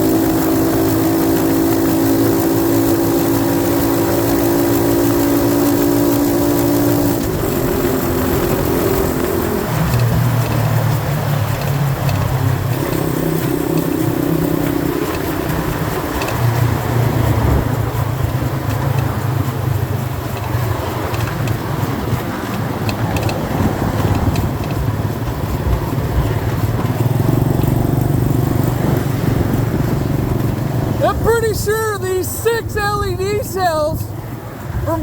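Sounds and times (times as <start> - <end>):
constant rushing noise: 0.0 - 35.0
dirt bike engine running: 0.0 - 35.0.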